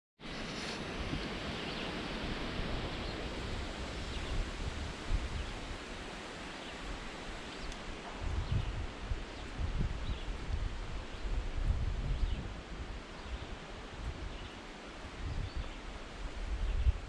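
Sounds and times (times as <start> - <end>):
wind rumble on microphone: 0.2 - 17.0
wind rustling leaves: 0.2 - 17.0.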